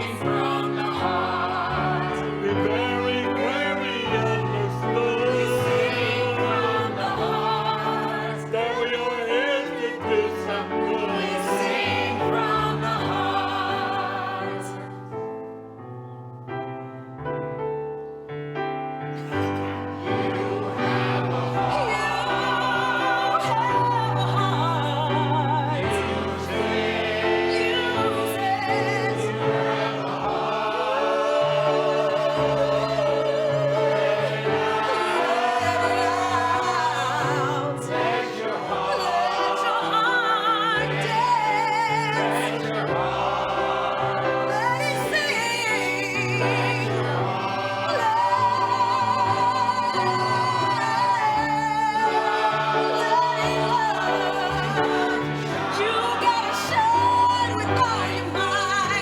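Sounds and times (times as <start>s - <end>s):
chorus singing with instruments: 0.0s - 15.4s, 19.1s - 59.0s.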